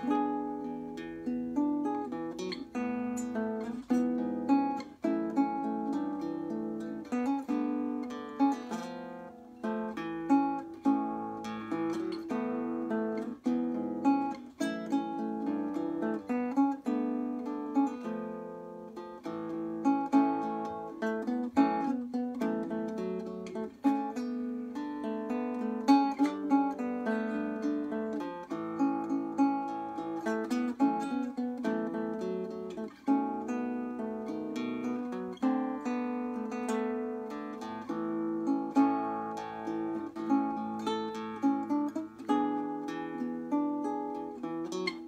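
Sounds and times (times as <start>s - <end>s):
classical guitar fingerstyle: 0.0s - 45.0s.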